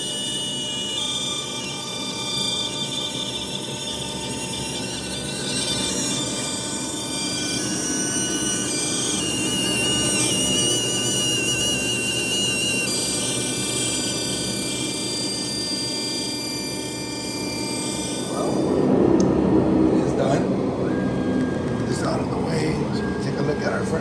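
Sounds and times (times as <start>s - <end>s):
wavering higher tone: 0.0s - 19.1s, 20.0s - 24.0s
constant machine noise: 0.0s - 24.0s
router spindle high whine: 0.0s - 24.0s.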